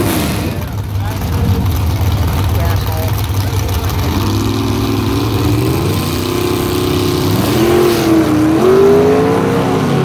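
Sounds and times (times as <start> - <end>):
race car engines revving: 0.0 - 10.0.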